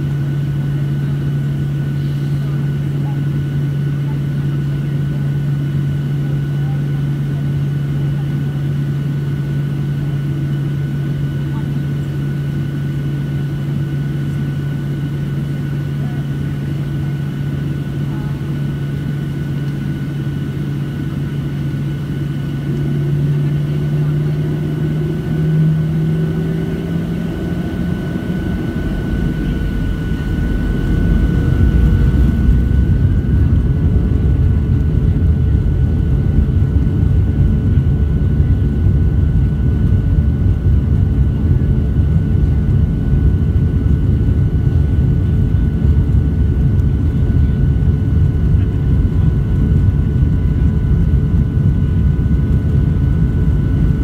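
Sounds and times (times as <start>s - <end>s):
jet engines from inside cabin: 0.0s - 54.0s.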